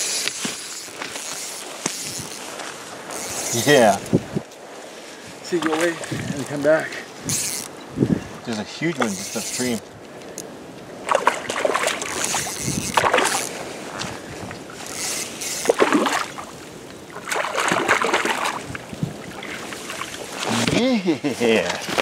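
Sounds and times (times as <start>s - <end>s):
river water splashing: 0.0s - 3.9s, 4.5s - 22.0s.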